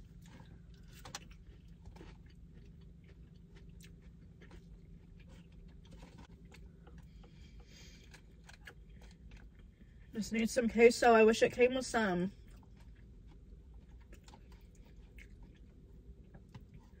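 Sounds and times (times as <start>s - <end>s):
close-up chewing: 0.0s - 10.2s, 12.3s - 17.0s
low steady hum: 0.0s - 17.0s.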